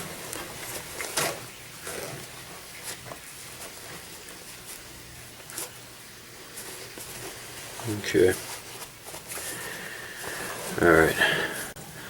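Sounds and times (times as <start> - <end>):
faint rustling: 0.0 - 11.8.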